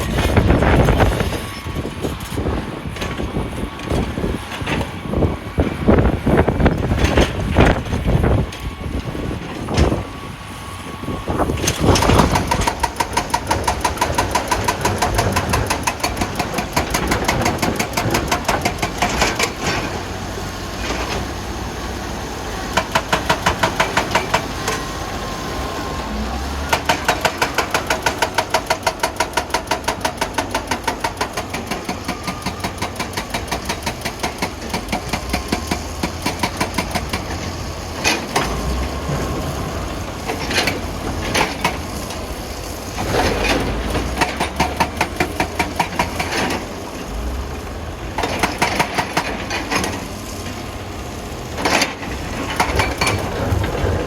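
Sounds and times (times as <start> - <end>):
diesel engine clattering: 0.0 - 54.0.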